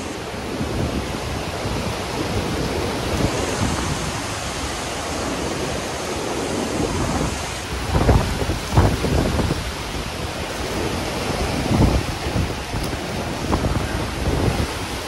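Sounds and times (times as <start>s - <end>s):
driving rain: 0.0s - 15.0s
hurricane wind: 0.0s - 15.0s
wind gusts buffeting microphone: 0.0s - 15.0s.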